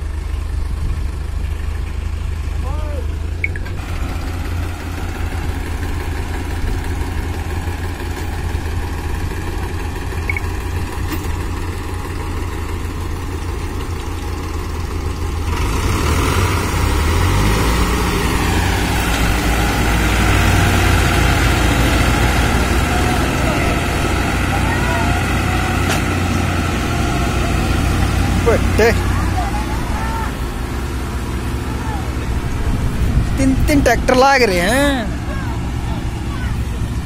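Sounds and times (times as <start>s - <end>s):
tractor engines straining: 0.0s - 37.0s.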